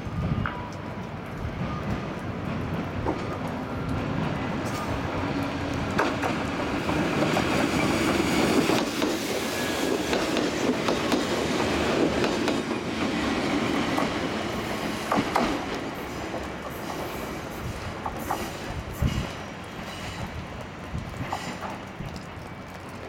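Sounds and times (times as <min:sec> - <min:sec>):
train wheels rumbling on rail: 0:00.0 - 0:23.0
clacks over rail joints: 0:00.4 - 0:17.2, 0:17.8 - 0:23.0.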